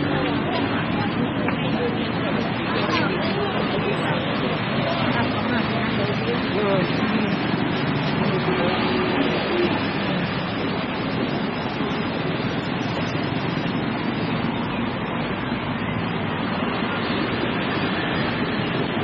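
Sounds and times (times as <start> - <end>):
road traffic hiss: 0.0 - 19.0.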